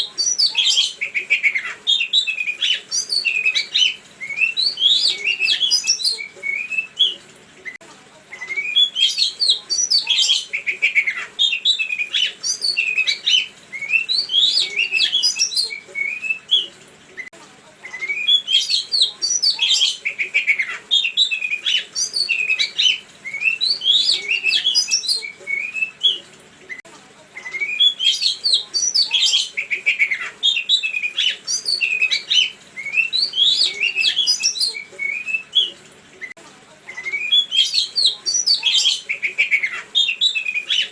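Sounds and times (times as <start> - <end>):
songbird chirping and trilling: 0.0 - 26.8, 27.4 - 40.9.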